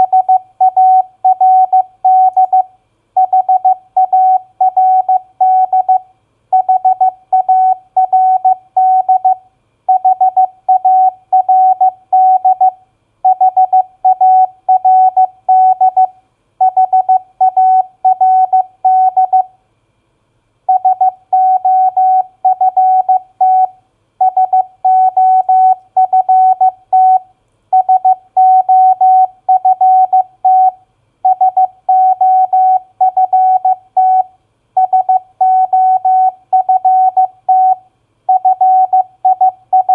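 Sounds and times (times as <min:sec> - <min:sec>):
morse code beeps: 0:00.0 - 0:06.0, 0:06.6 - 0:19.5, 0:20.7 - 0:27.2, 0:27.8 - 0:39.9.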